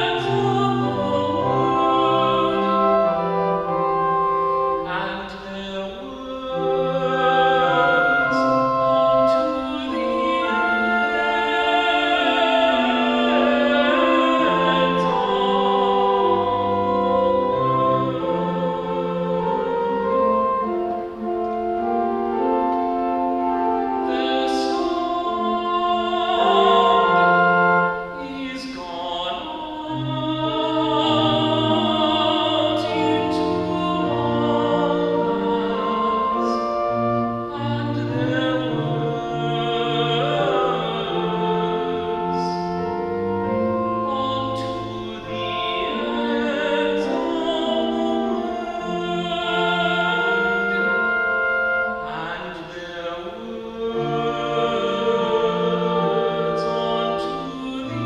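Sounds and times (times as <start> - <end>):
pipe organ chords: 0.0 - 5.3, 5.9 - 28.8, 29.4 - 58.0
classical singing with vibrato: 0.0 - 58.0.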